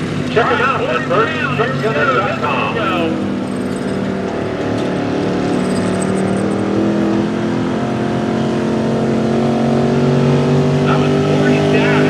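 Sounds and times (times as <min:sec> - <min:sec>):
pickup truck engine at high revs: 0:00.0 - 0:12.0.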